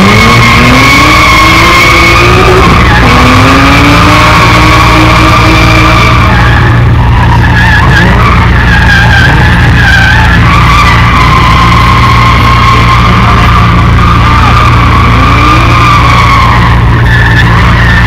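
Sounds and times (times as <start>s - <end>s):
car engine revving high: 0.0s - 18.0s
tyres squealing: 0.0s - 18.0s.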